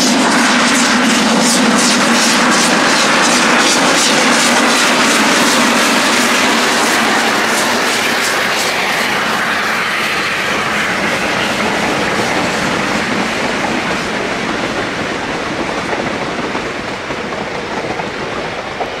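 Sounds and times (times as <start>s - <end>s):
train wheels clattering over rail joints: 0.0s - 19.0s.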